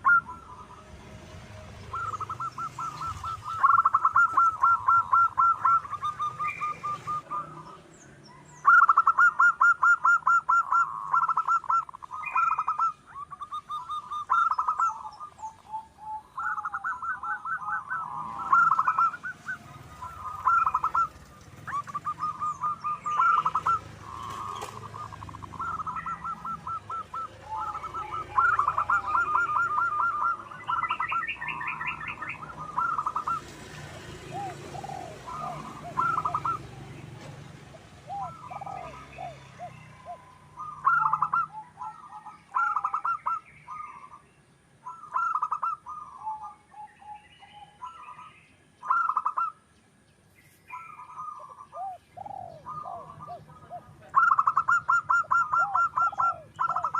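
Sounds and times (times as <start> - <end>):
doves cooing: 0.0 - 49.6, 50.7 - 56.9
small birds chirping: 0.0 - 56.9.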